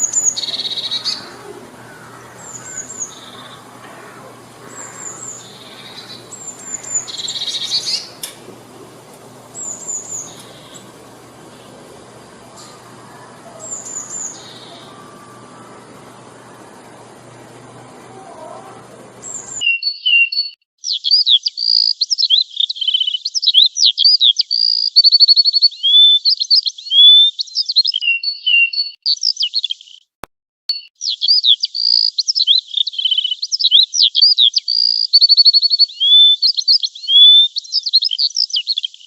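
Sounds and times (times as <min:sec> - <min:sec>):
songbirds singing: 0:00.0 - 0:25.0, 0:30.8 - 0:39.0.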